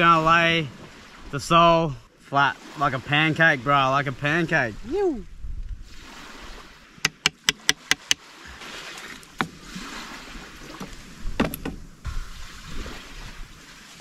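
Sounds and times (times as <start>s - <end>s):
surf: 0.0s - 6.9s, 7.8s - 14.0s.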